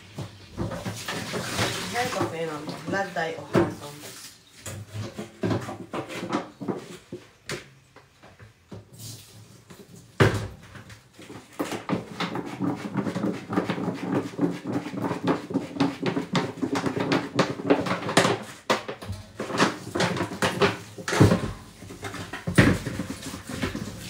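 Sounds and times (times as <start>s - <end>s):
plastic dishes clattering in sink: 0.0s - 24.0s.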